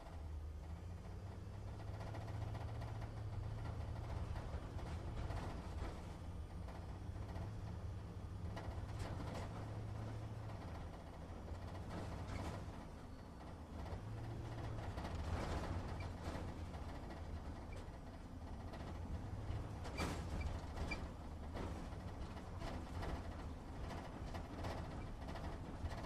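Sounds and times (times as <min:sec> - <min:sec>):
truck engine hum: 0:00.0 - 0:26.0.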